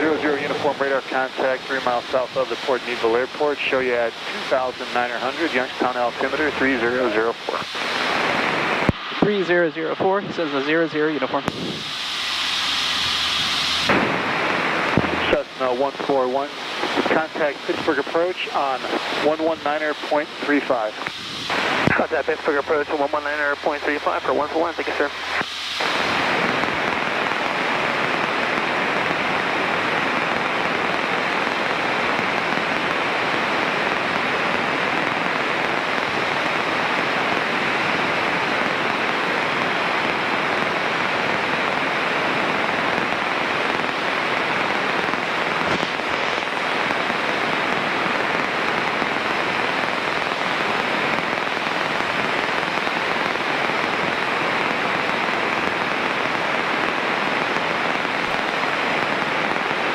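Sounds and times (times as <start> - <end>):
radio intercom hiss: 0.0 - 59.9.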